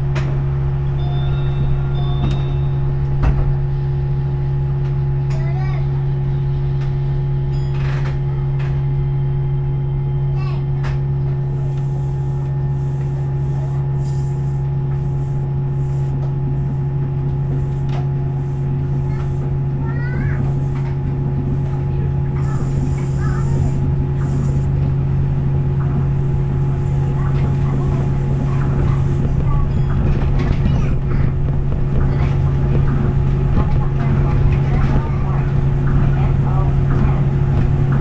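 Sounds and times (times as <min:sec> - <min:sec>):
low cabin hum: 0:00.0 - 0:38.0
train running rumble: 0:00.0 - 0:38.0.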